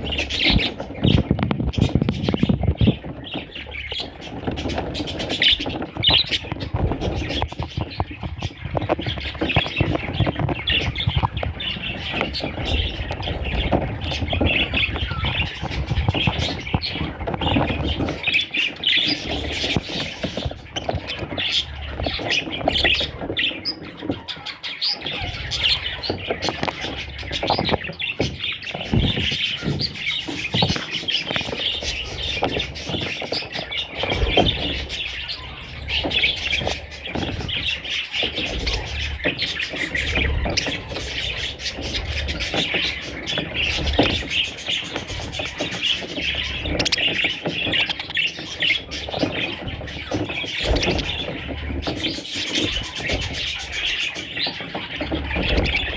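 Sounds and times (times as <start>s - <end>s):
budgerigars chirping: 0.0s - 55.9s.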